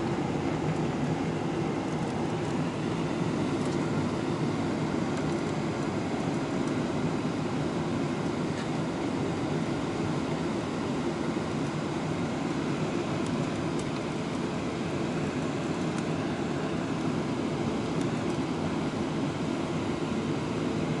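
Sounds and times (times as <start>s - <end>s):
airflow over fuselage: 0.0s - 21.0s
jet engines in cabin: 0.0s - 21.0s.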